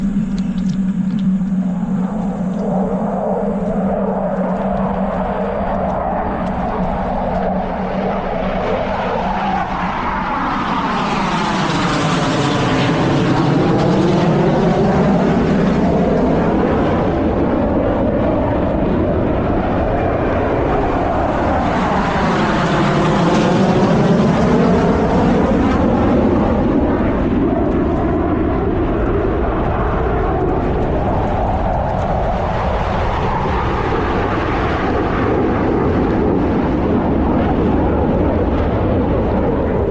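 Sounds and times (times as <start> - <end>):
jet aircraft roar: 0.0 - 39.9.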